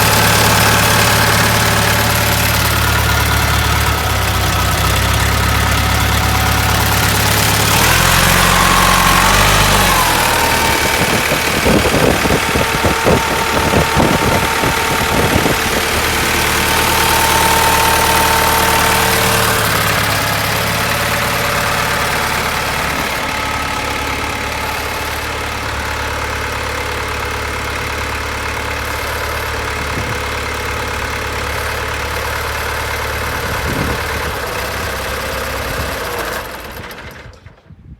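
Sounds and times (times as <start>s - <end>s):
tractor engine idling and revving: 0.0s - 37.8s.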